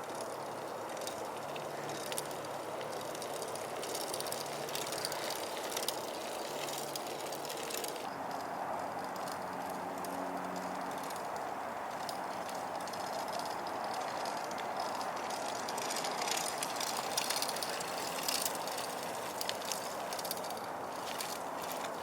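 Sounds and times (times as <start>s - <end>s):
bike clicks and rattles: 0.0s - 22.0s
bike tyres rolling on dirt: 0.0s - 22.0s.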